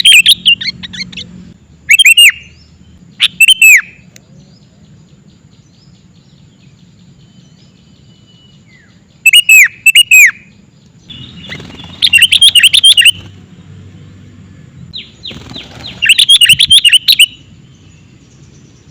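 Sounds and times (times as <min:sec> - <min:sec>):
bulbul rapid chirping song: 0:00.0 - 0:18.9.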